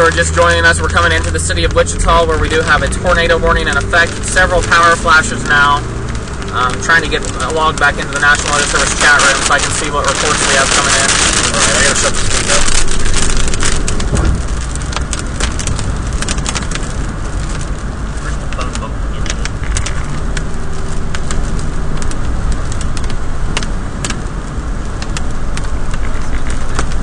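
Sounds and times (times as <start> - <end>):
raindrops tapping on car: 0.0 - 27.0
road and engine rumble: 0.0 - 27.0.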